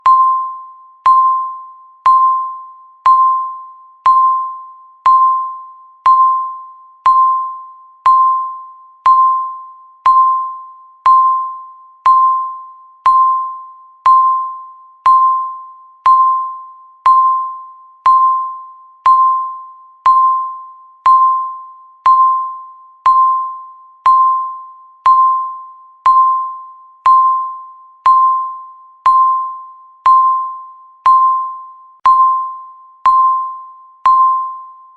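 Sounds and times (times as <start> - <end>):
countdown timer beeping: 0.0 - 34.9.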